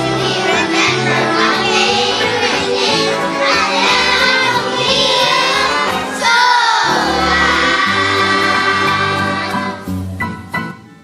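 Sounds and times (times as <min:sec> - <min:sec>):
children singing together: 0:00.0 - 0:09.9
music backing track: 0:00.0 - 0:11.0.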